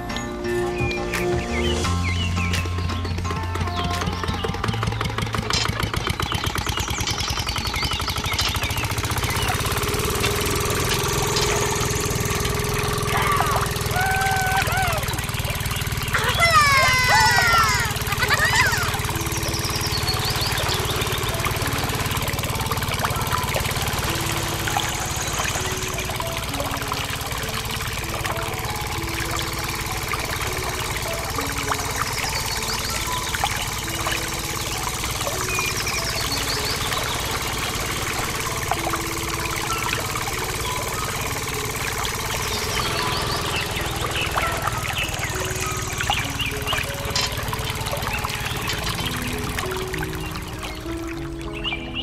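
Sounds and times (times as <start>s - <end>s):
small motor buzzing hum: 2.5s - 52.0s
water pouring into tank: 8.6s - 51.6s.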